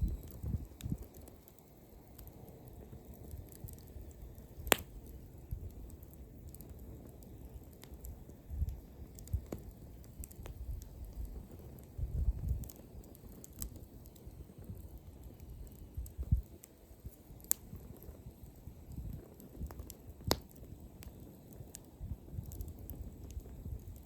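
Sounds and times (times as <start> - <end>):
burning wood popping: 0.0 - 24.0
campfire crackling: 0.0 - 24.0.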